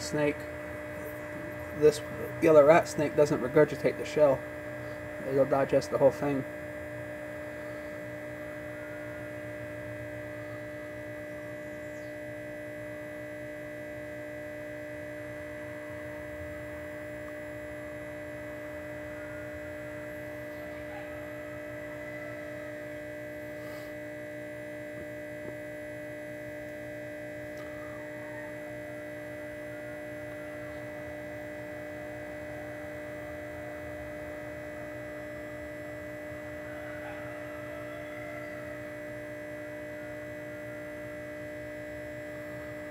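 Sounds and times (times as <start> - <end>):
steady electrical hum: 0.0 - 42.9.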